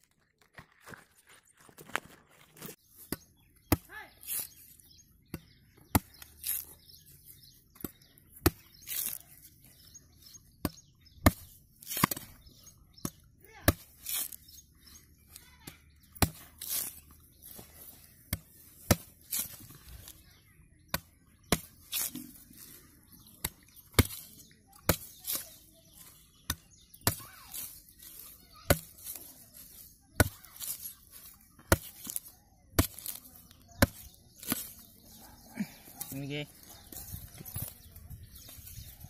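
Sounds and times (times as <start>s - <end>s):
machete chopping coconut husk: 3.0s - 9.9s, 10.5s - 39.0s.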